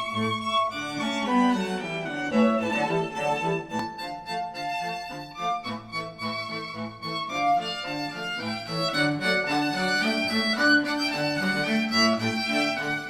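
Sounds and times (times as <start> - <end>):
instrumental string music: 0.0 - 13.0.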